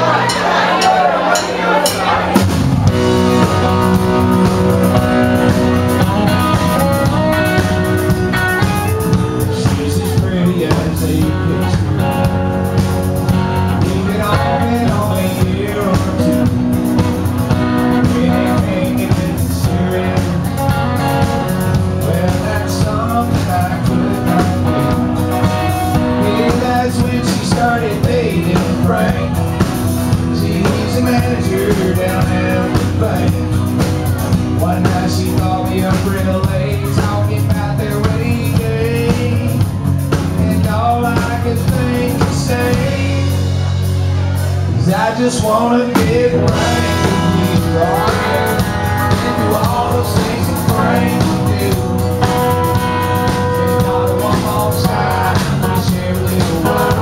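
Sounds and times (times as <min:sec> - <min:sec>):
country rock band playing: 0:00.0 - 0:57.0
man singing: 0:00.0 - 0:57.0.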